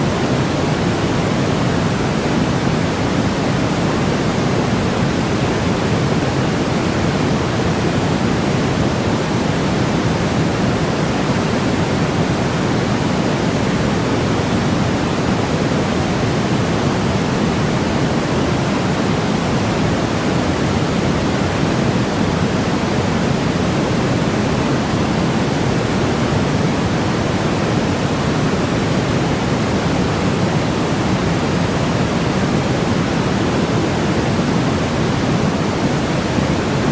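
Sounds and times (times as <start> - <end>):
steady synthetic pink noise: 0.0 - 36.9.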